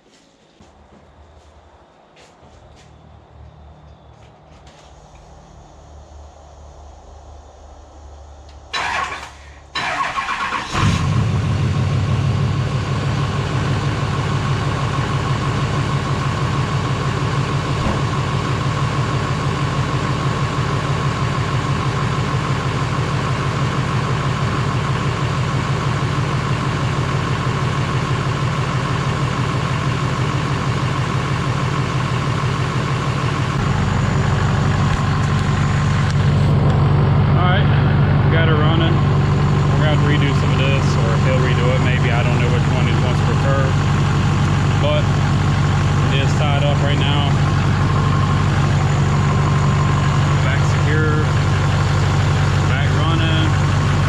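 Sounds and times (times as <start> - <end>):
diesel engine cranking and idling: 4.7 - 54.0.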